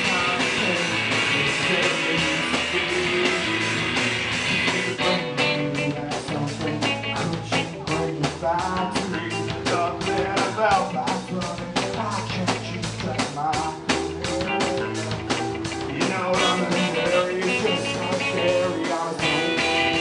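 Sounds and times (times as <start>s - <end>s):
distorted electric guitar: 0.0s - 20.0s
fast drumbeat: 0.0s - 20.0s.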